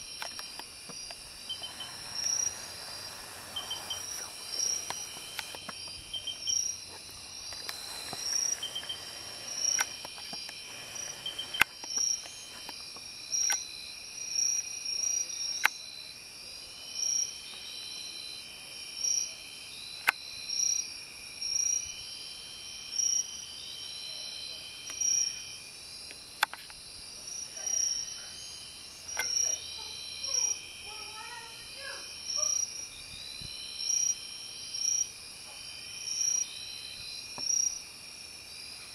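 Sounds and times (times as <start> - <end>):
insect trill: 0.0 - 38.9
insects chirping: 0.0 - 38.9.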